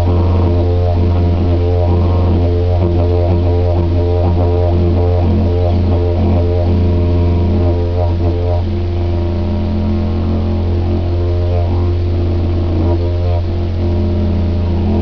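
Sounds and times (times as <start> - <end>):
didgeridoo drone: 0.0 - 15.0.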